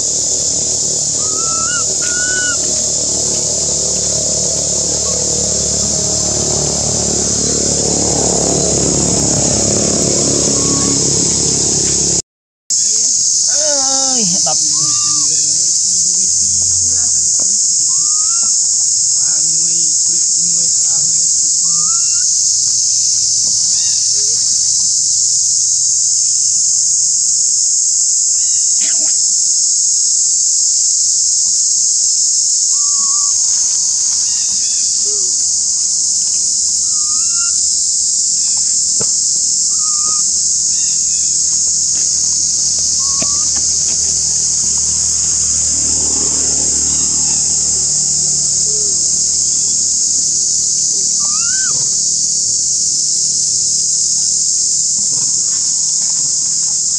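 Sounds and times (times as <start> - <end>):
insect chorus drone: 0.0 - 56.9.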